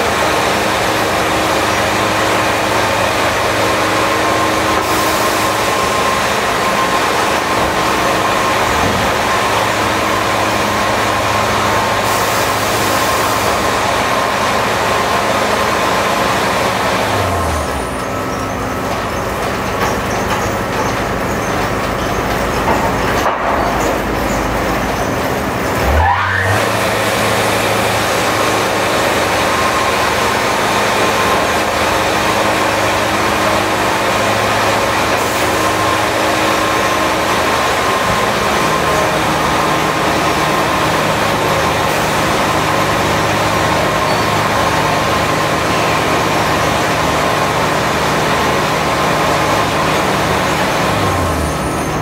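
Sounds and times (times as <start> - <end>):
band sawmill running: 0.0 - 52.0.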